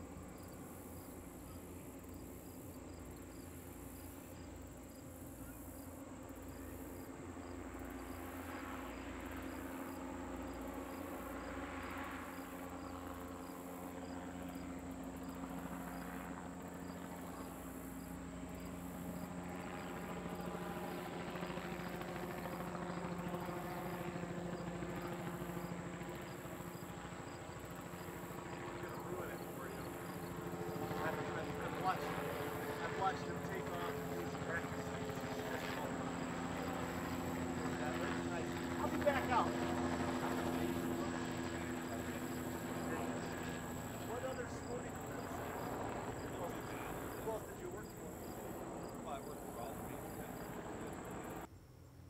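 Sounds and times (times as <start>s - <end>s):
airship propeller engines droning: 0.0s - 51.5s.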